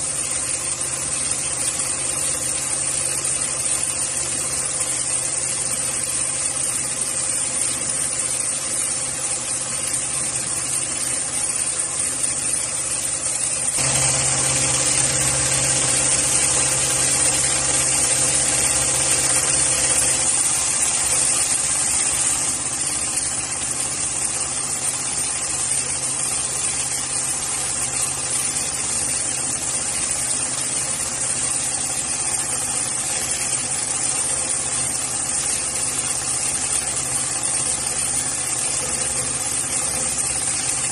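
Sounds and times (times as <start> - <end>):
industrial sewing machine running: 0.0 - 40.9.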